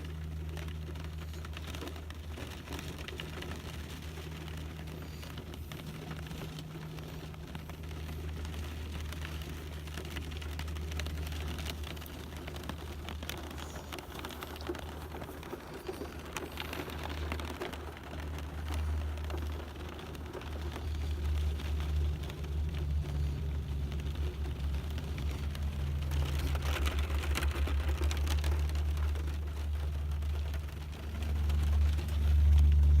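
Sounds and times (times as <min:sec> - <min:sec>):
low rumble: 0:00.0 - 0:33.0
rain falling: 0:00.0 - 0:33.0.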